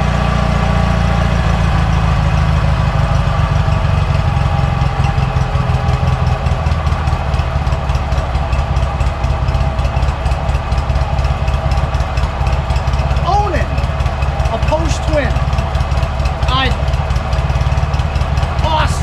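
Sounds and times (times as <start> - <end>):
mower engine idling: 0.0 - 19.0.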